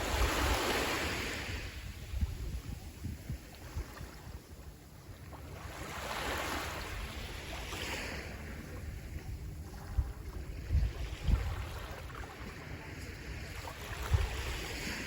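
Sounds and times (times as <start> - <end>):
sea waves washing onto shore: 0.0 - 15.0
wind rumble on microphone: 0.0 - 15.0.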